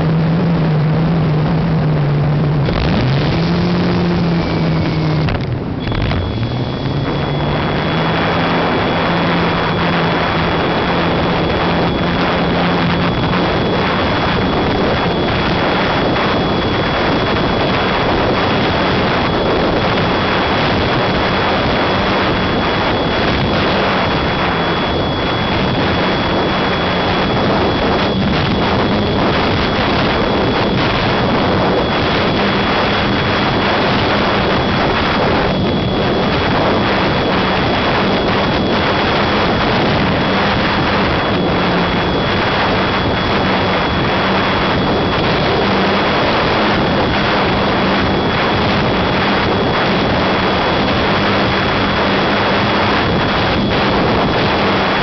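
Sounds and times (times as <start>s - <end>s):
high-pitched whine: 0.0s - 55.0s
propeller motor hum: 0.0s - 55.0s
wind rushing over microphone: 0.0s - 55.0s.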